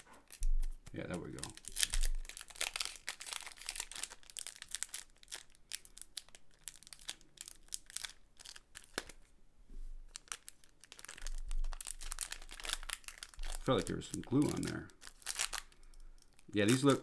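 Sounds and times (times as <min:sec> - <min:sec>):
foil wrapper crinkling: 0:00.0 - 0:09.2, 0:10.1 - 0:17.0.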